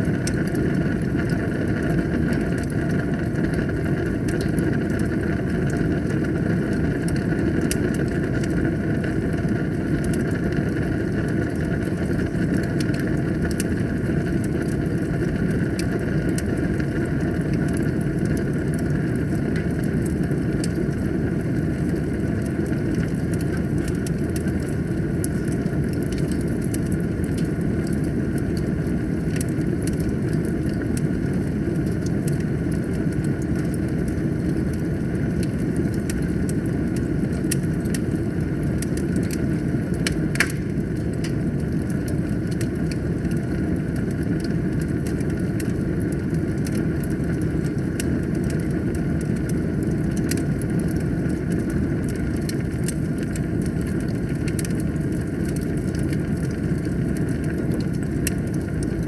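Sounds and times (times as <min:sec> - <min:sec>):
fire crackling and popping: 0:00.0 - 0:59.0
low rush of flames: 0:00.0 - 0:59.0.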